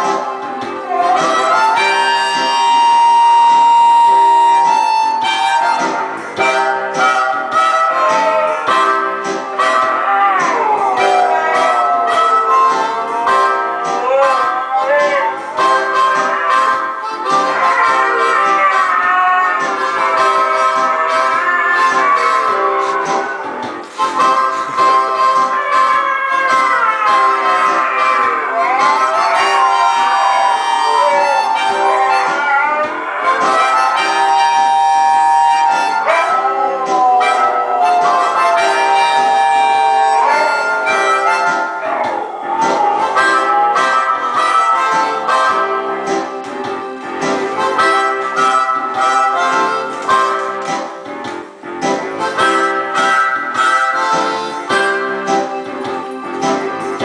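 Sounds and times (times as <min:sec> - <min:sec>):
huskies howling: 0:00.0 - 0:46.6
blues music: 0:00.0 - 0:57.0.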